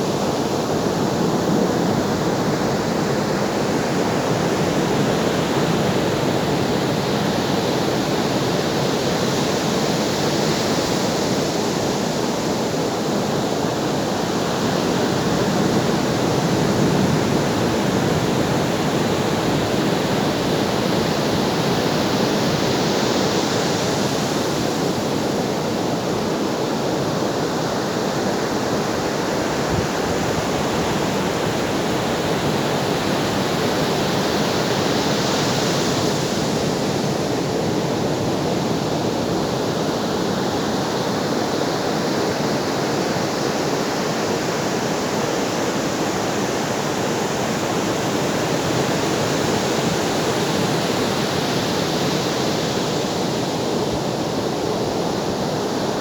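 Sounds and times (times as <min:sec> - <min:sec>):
ocean waves on a shore: 0:00.0 - 0:56.0.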